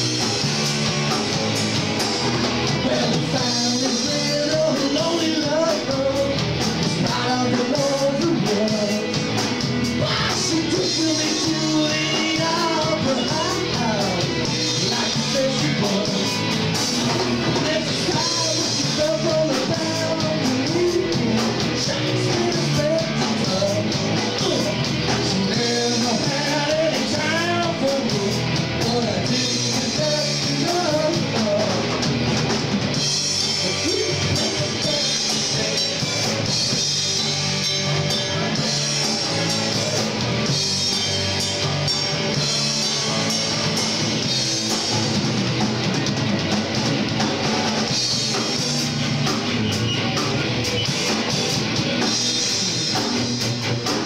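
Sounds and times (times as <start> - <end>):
bass guitar: 0.0 - 54.0
drum kit: 0.0 - 54.0
electric guitars: 0.0 - 54.0
melodic guitar lead line: 0.0 - 54.0.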